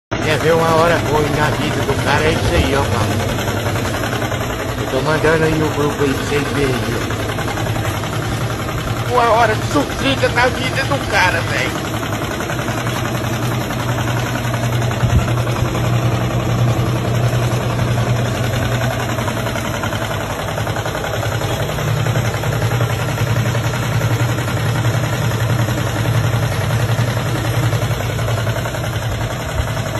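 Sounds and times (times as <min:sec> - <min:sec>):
washing machine humming: 0:00.1 - 0:29.9.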